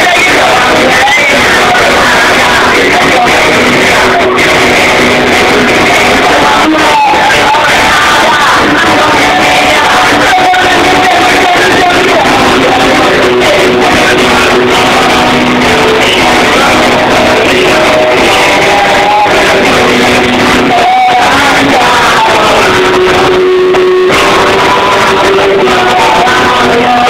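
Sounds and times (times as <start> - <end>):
person singing karaoke: 0.0 - 27.0
rock backing track with guitar: 0.0 - 27.0.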